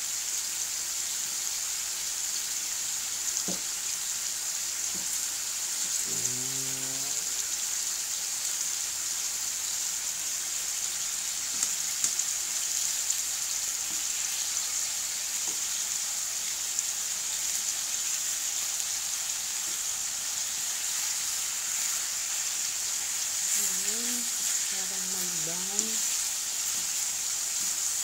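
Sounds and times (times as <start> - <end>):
chicken sizzling in a wok: 0.0 - 28.0.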